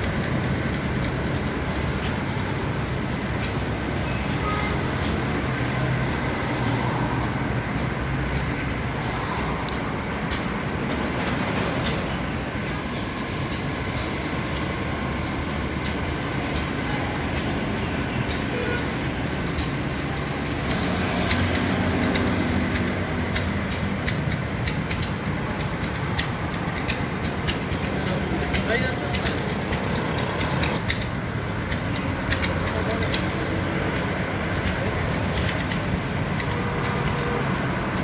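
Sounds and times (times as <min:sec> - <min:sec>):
sharp clicks and clatters: 0:00.0 - 0:38.0
steady rumbling background noise: 0:00.0 - 0:38.0.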